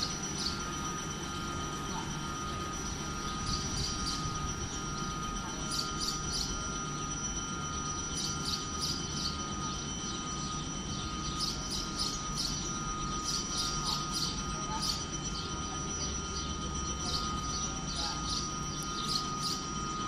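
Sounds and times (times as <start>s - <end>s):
small birds chirping: 0.0s - 20.0s
thin high whine: 0.0s - 20.0s.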